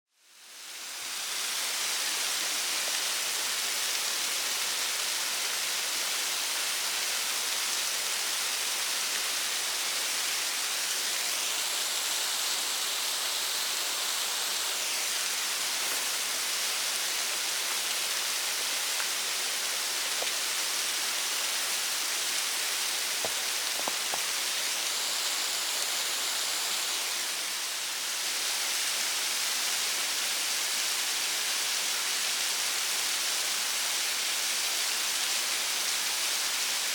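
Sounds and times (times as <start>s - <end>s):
waterfall rushing and splashing: 0.6s - 36.9s.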